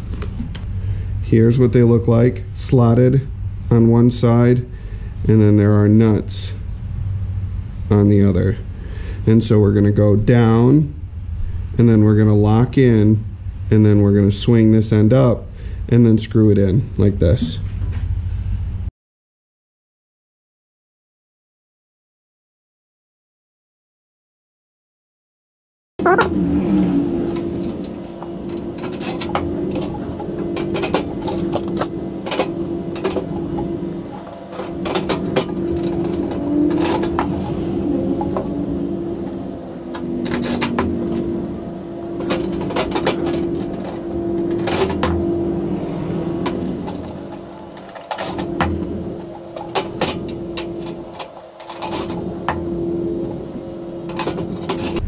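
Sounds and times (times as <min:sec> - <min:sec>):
steady low hum: 0:00.0 - 0:18.9, 0:26.0 - 0:55.0.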